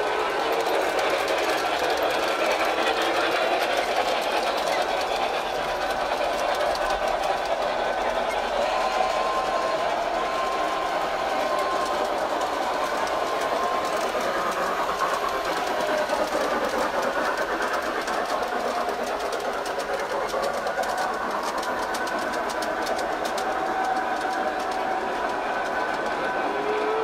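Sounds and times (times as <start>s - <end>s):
wheels clicking over rail joints: 0.0s - 27.0s.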